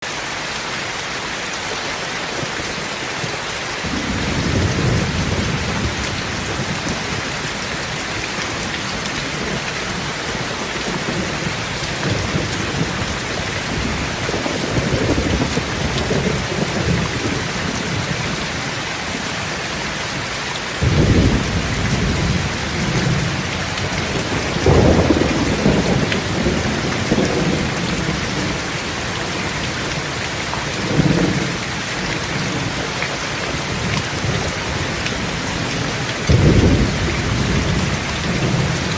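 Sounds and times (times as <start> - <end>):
steady rain falling: 0.0 - 38.9
thunder rumbling: 3.8 - 19.2, 20.8 - 29.9, 30.7 - 38.9.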